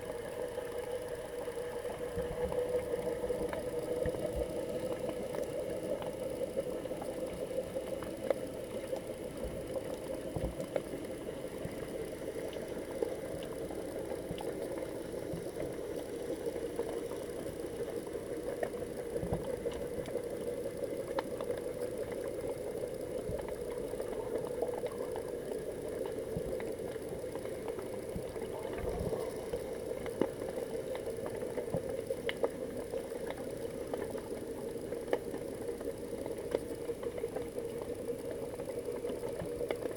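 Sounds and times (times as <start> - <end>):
faint clicks and knocks: 0.0 - 39.9
muffled underwater hum: 0.0 - 39.9.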